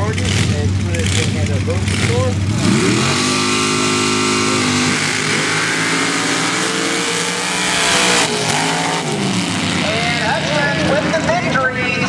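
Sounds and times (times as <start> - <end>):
racing engine at full throttle: 0.0 - 12.0.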